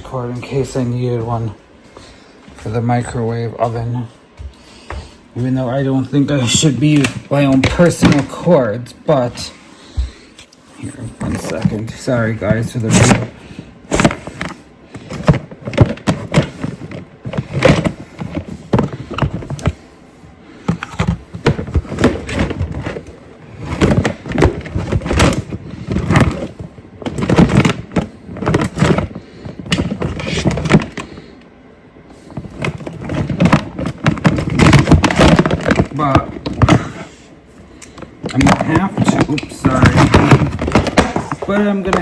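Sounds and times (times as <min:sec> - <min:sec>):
objects being rummaged through: 0:05.4 - 0:10.1, 0:10.8 - 0:19.9, 0:20.6 - 0:31.4, 0:32.1 - 0:42.0.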